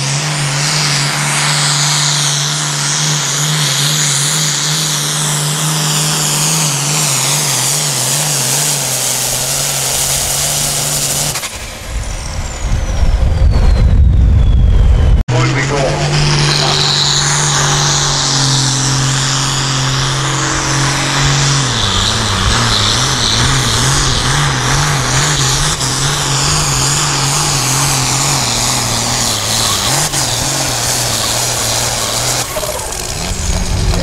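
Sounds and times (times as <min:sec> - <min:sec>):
tractor diesel engine under load: 0:00.0 - 0:13.5, 0:15.2 - 0:34.0.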